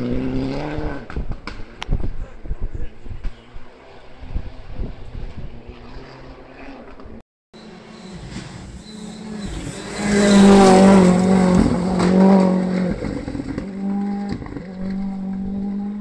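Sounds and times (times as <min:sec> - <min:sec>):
rally car engine at high revs: 0:00.0 - 0:02.0, 0:03.2 - 0:16.0.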